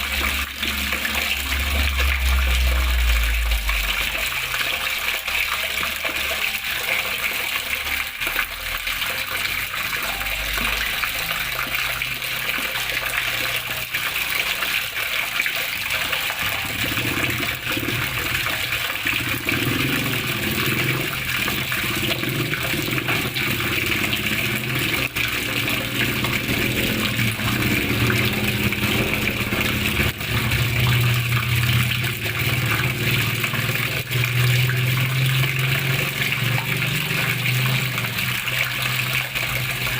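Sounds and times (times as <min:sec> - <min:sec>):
flowing water splashing: 0:00.0 - 0:39.9.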